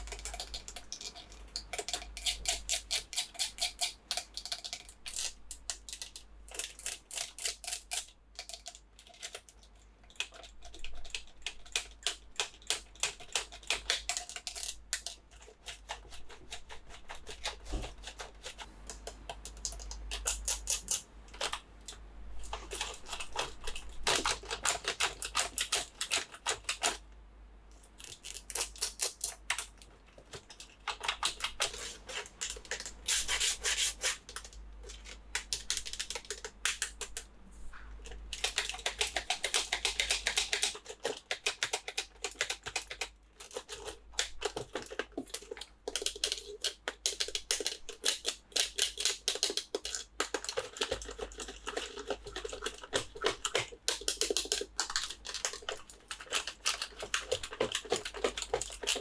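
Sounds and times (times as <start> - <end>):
plastic toys clicking and crinkling: 0.0 - 27.0, 27.7 - 59.0.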